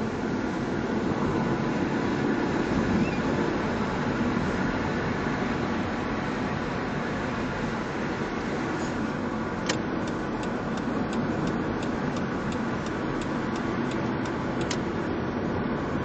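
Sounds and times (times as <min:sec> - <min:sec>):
distant urban traffic: 0:00.0 - 0:16.0.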